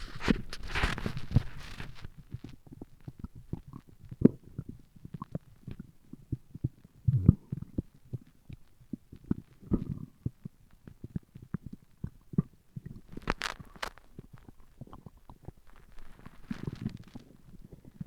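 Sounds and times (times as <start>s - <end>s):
stomach growling: 0.0s - 18.0s.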